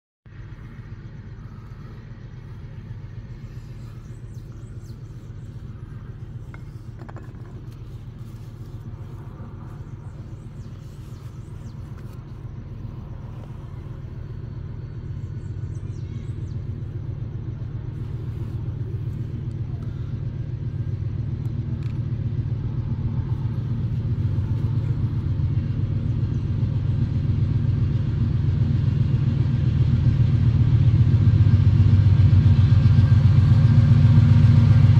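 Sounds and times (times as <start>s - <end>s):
diesel locomotive engine rumble: 0.3s - 34.9s.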